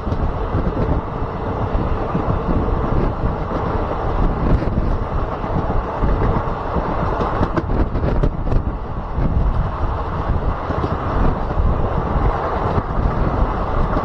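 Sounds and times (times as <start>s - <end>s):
train running along track: 0.0s - 14.0s
wind buffeting microphone: 0.0s - 14.0s.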